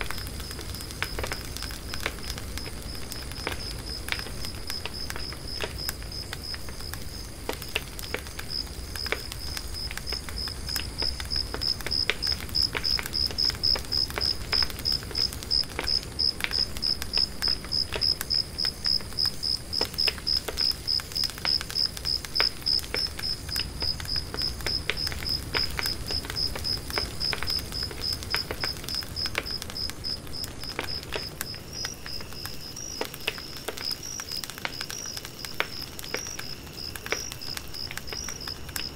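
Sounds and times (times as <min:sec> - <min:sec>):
insect chirping: 0:02.4 - 0:38.9.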